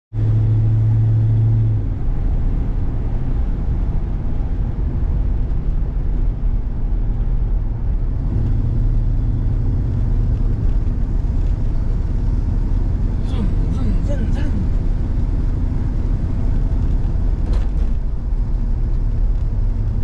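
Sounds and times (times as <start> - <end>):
car engine and road noise: 0.1 - 20.0.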